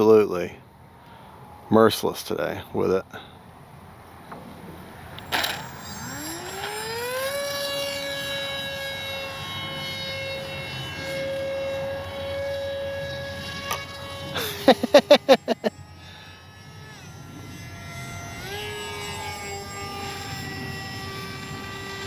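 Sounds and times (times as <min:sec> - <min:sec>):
electric motor and propeller whine: 0:00.0 - 0:22.0.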